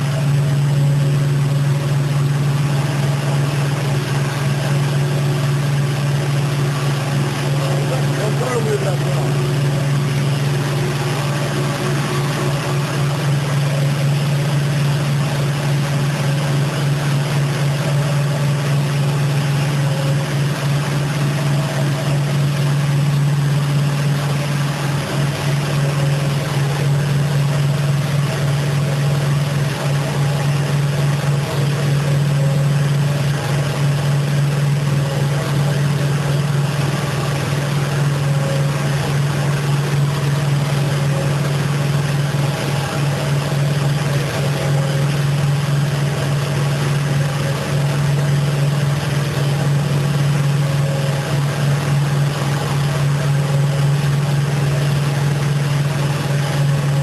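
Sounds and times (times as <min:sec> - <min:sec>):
machinery low hum: 0:00.0 - 0:57.0.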